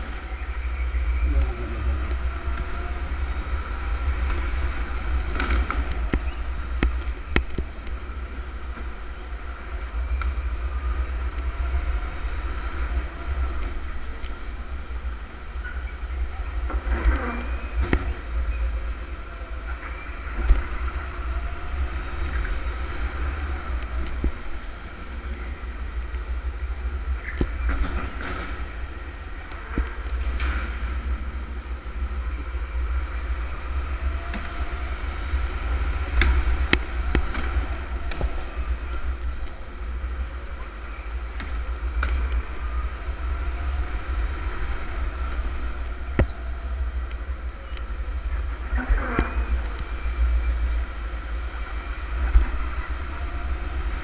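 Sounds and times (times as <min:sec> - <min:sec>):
wind and chassis rumble: 0:00.0 - 0:54.0.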